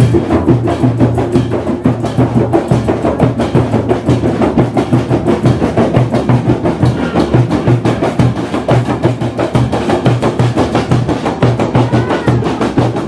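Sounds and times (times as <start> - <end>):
drum percussion music: 0.0 - 13.0.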